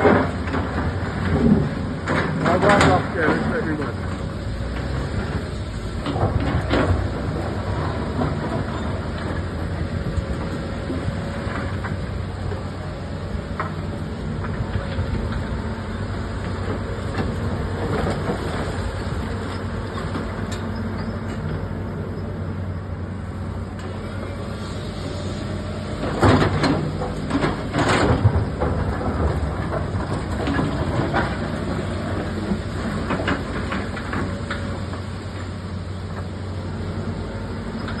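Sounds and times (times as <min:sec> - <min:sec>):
digger engine running: 0:00.0 - 0:38.0.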